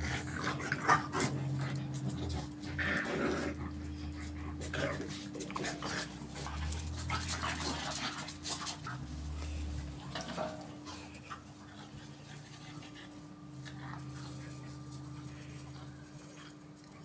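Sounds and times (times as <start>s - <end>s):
dogs panting: 0.0s - 17.0s.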